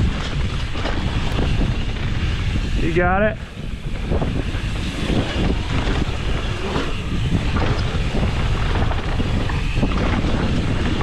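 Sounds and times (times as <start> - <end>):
tyres on dirt: 0.0 - 3.0, 3.6 - 11.0
bike knocking and rattling: 0.0 - 11.0
wind on microphone: 0.0 - 11.0.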